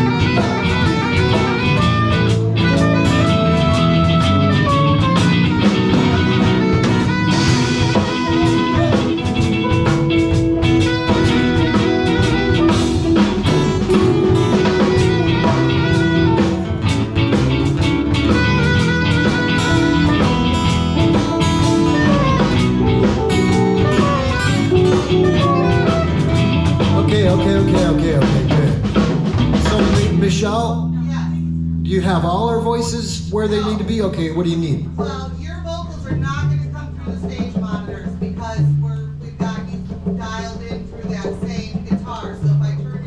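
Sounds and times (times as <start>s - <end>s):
live blues band: 0.0s - 43.0s.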